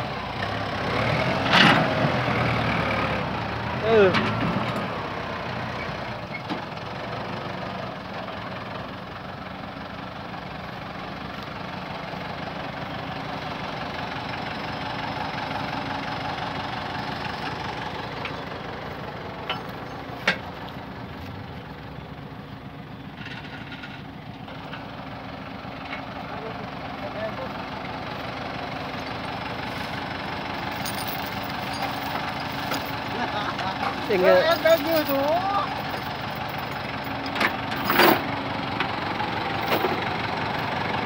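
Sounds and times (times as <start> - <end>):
tractor diesel engine idling: 0.0 - 41.0.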